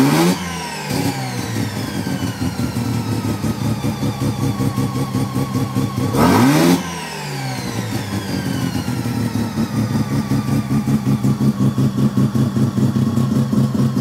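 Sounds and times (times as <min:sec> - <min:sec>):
rotary engine idling: 0:00.4 - 0:14.0.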